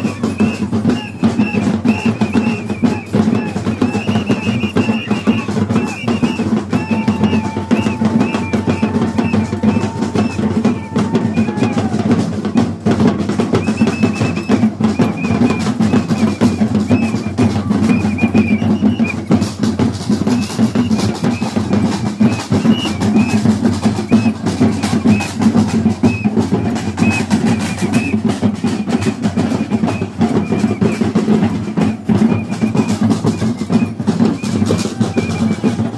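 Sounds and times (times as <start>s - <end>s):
fast dense drumming: 0.0s - 35.9s.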